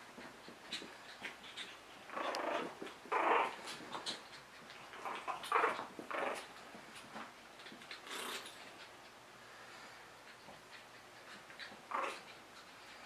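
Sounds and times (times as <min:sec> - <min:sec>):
puppies growling and yapping: 0:00.0 - 0:09.3, 0:10.1 - 0:13.0.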